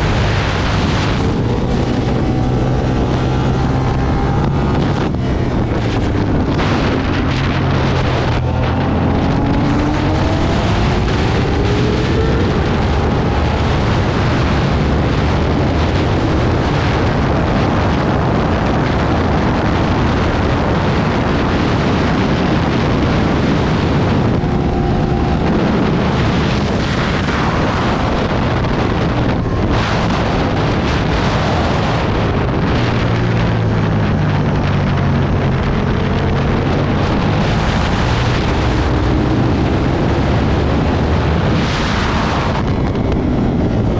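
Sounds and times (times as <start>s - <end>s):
motorcycle engine revving: 0.0s - 43.9s
wind noise on microphone: 0.0s - 43.9s.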